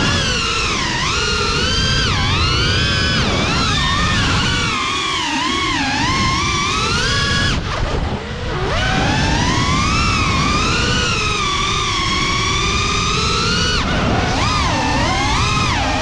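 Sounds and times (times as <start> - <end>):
drone motors whining: 0.0 - 16.0
steady rushing noise: 0.0 - 16.0.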